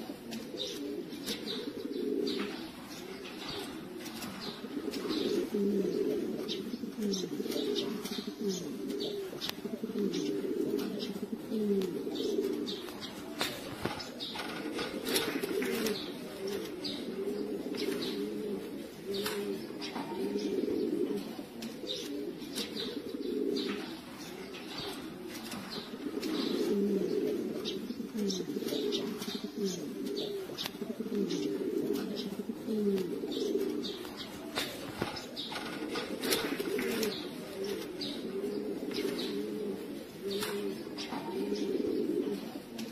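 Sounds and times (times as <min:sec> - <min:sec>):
pigeons cooing: 0:00.0 - 0:42.9.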